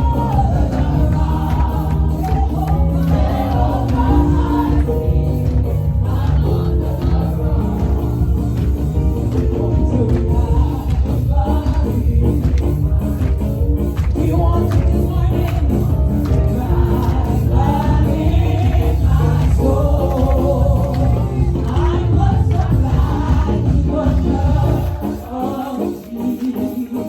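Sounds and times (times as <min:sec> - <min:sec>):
gospel choir singing: 0:00.0 - 0:27.0.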